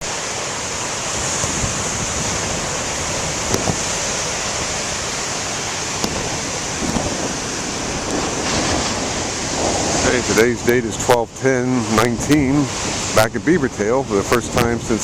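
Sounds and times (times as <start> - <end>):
ocean waves breaking: 0.0 - 15.0
wind on microphone: 1.0 - 15.0.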